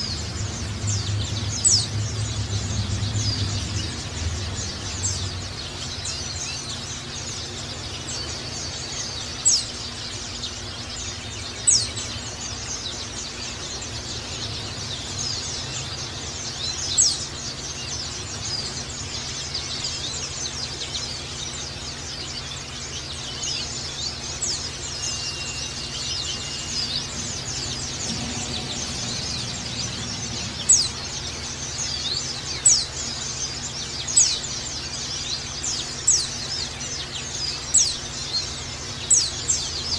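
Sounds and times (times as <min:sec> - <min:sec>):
birds twittering: 0:00.0 - 0:39.9
low hum: 0:00.0 - 0:39.9.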